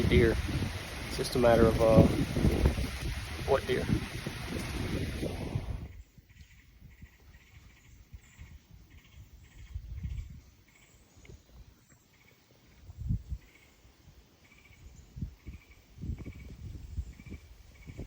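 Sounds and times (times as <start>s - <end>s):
wind rumbling on microphone: 0.0s - 11.8s, 12.6s - 18.0s.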